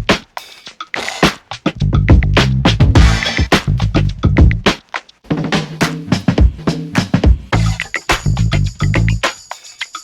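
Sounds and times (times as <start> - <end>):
funky electronic music: 0.0 - 4.8, 5.8 - 10.0.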